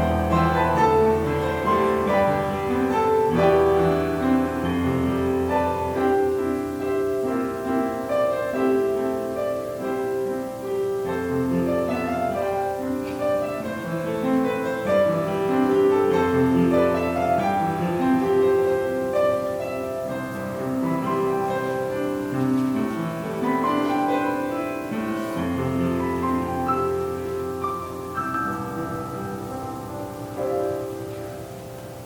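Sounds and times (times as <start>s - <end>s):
slow piano music: 0.0s - 32.0s.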